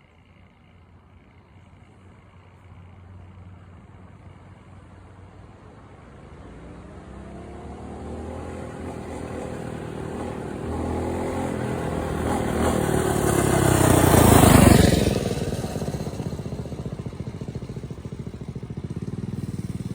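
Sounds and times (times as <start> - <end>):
small vehicle engine passing by: 0.0 - 19.9.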